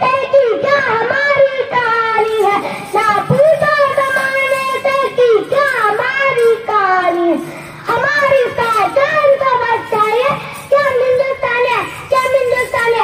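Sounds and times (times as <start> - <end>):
girl singing into a microphone: 0.0 - 13.0.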